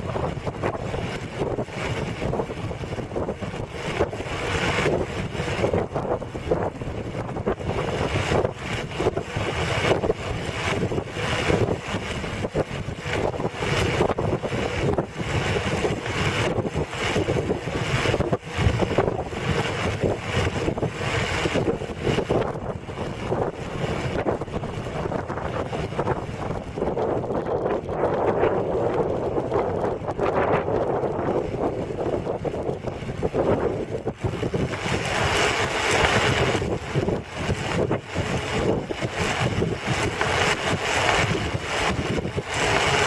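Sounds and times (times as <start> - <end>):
low rumble: 0.0 - 43.0
wind buffeting microphone: 0.0 - 43.0.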